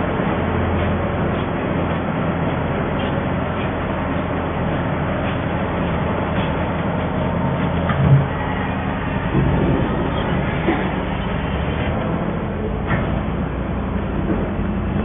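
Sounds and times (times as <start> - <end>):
baler mechanical hum: 0.0 - 15.0.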